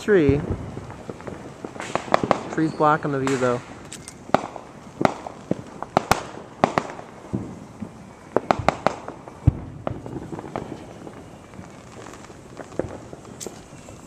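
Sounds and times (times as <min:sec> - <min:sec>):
deep firework boom: 0:00.0 - 0:14.0
fireworks bangs and pops: 0:00.0 - 0:14.0.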